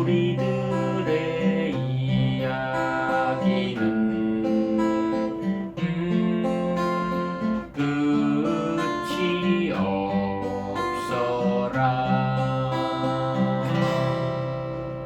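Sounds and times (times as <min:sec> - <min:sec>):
acoustic guitar fingerpicked arpeggio: 0:00.0 - 0:15.0.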